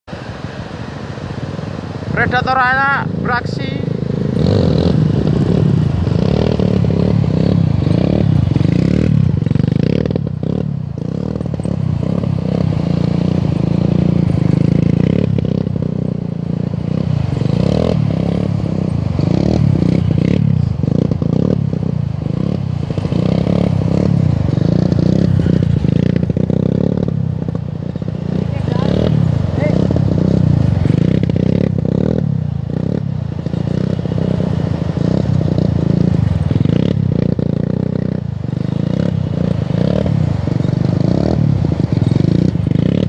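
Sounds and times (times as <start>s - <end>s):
dirt bike engine revving: 2.2s - 43.0s.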